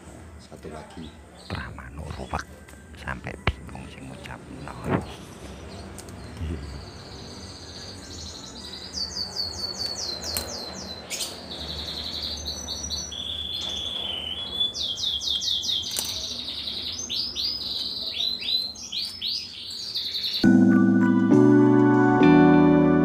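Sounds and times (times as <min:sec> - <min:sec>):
canaries chirping and trilling: 0:00.6 - 0:20.5.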